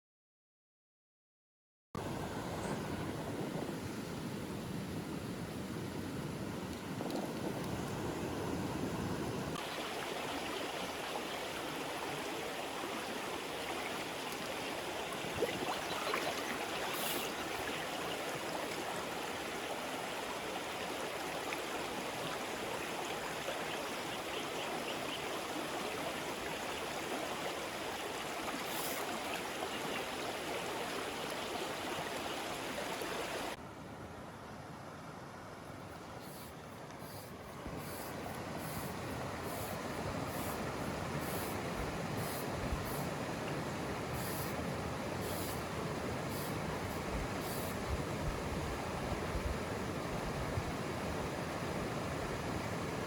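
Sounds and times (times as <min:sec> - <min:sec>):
stream running: 0:06.5 - 0:33.6, 0:35.6 - 0:53.0.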